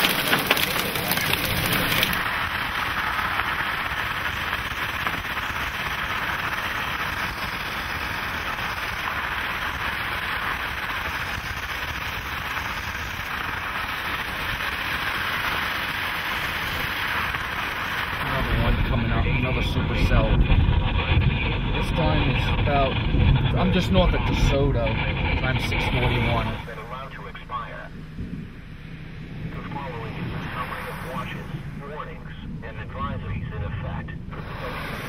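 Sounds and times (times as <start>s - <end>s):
heavy rain pelting a vehicle: 0.0s - 28.3s, 29.4s - 35.0s
rushing noise inside a vehicle: 0.0s - 35.0s.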